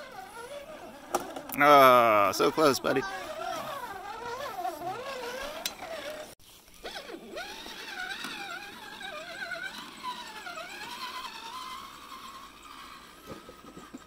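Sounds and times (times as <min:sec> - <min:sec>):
electric motor and gear whine: 0:00.0 - 0:14.0.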